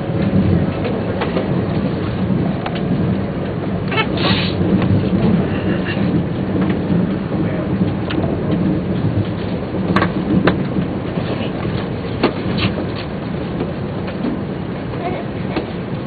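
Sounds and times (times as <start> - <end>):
train interior low rumble: 0.0 - 16.0.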